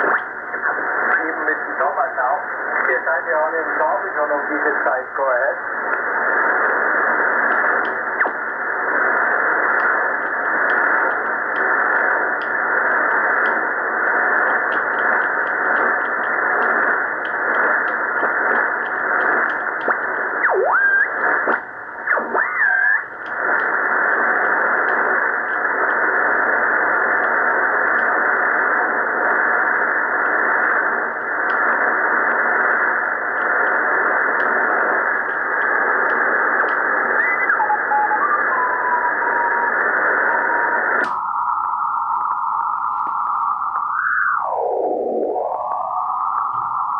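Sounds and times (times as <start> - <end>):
radio static and crackles: 0.0 - 46.9
radio whistling tones: 0.0 - 46.9.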